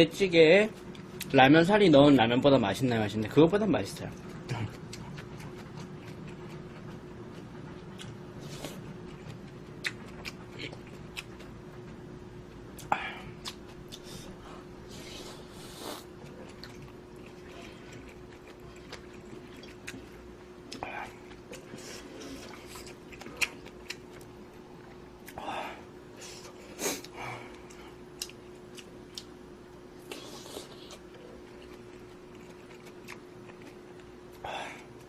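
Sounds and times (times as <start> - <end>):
faint steady hum: 0.0 - 35.0
person chewing: 4.0 - 29.4, 30.0 - 35.0.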